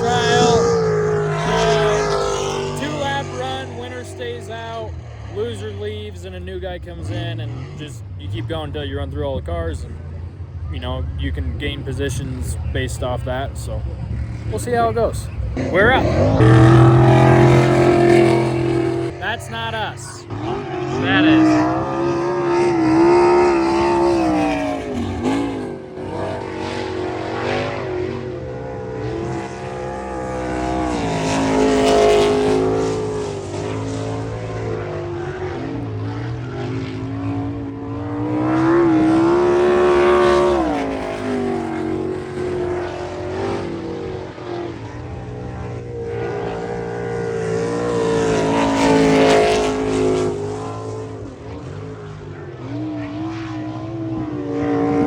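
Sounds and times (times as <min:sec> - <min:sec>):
racing car engine: 0:00.0 - 0:55.0.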